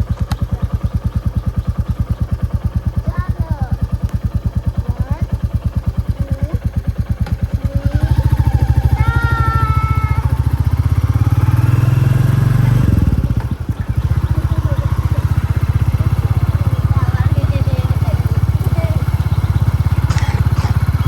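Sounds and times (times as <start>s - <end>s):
motorcycle engine thumping: 0.0s - 21.0s.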